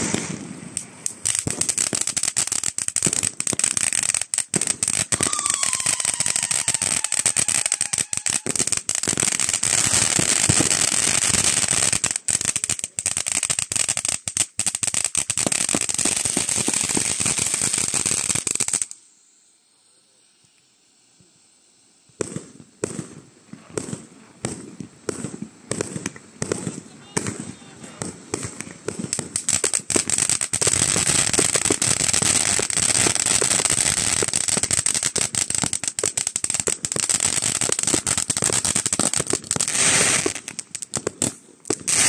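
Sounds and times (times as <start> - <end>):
firework bangs: 0.0 - 19.0, 22.1 - 42.0
firework crackling and popping: 0.0 - 19.4, 20.4 - 42.0.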